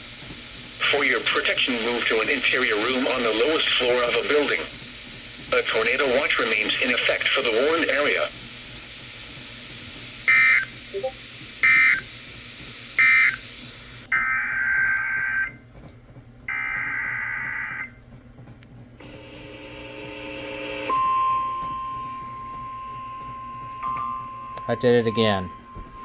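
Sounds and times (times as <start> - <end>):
steady warning alarm tone: 0.0 - 9.4, 10.2 - 15.7, 16.5 - 18.1, 19.0 - 26.0.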